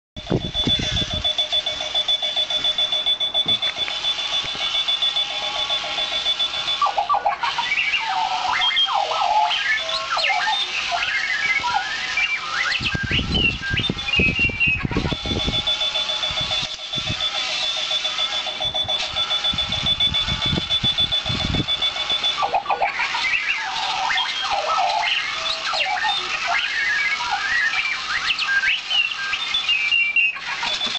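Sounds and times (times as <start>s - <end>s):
alarm clock high beep: 0.2s - 30.9s
warbling electronic tones: 0.2s - 30.9s.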